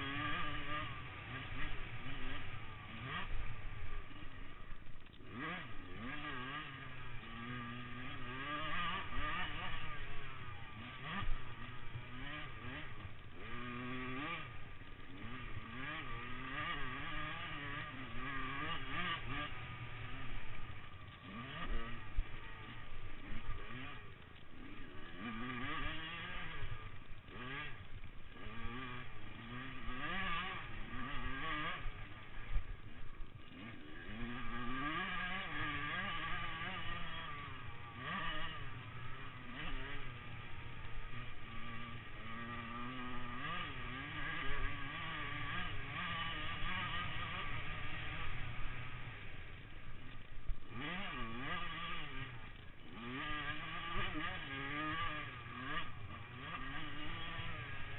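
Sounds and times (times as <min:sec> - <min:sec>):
motorbike engines revving: 0:00.0 - 0:57.9.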